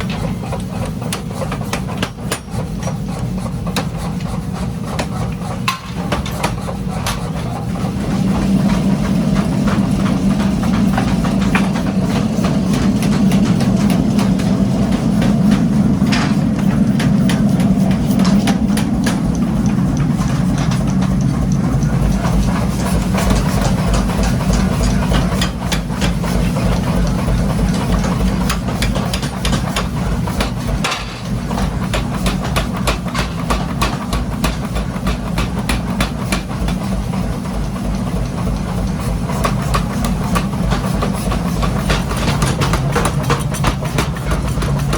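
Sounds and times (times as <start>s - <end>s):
heavy machinery humming: 0.0s - 44.9s.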